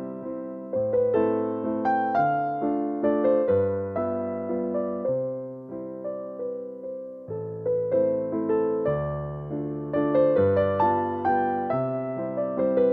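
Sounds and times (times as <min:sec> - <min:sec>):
gentle piano music: 0:00.0 - 0:12.9.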